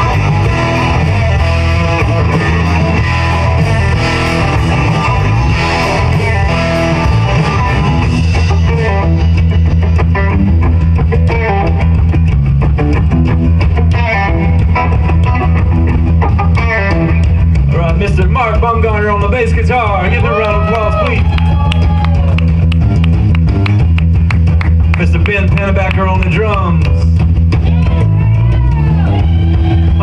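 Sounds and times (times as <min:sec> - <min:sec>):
bass guitar: 0:00.0 - 0:30.0
drums and cymbals: 0:00.0 - 0:30.0
electric guitar: 0:00.0 - 0:30.0.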